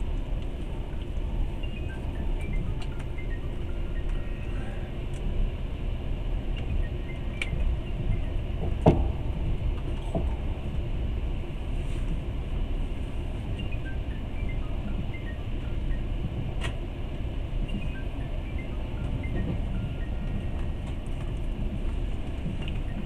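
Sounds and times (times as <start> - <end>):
train carriage rumbling: 0.0 - 23.0.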